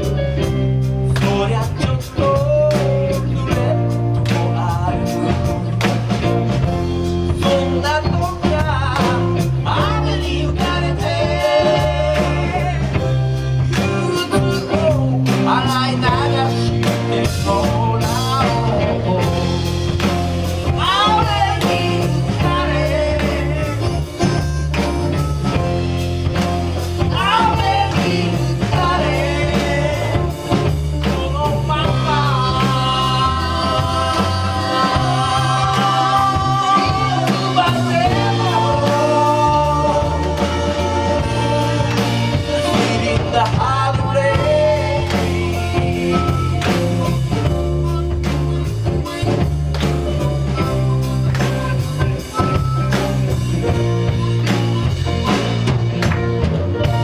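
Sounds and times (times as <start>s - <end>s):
band playing slow bluesy soul song: 0.0s - 57.0s.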